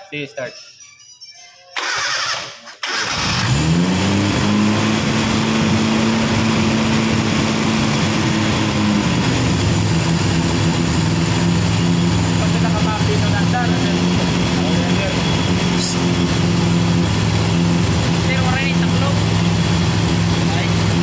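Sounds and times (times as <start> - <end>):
car engine starting and idling: 1.8 - 21.0.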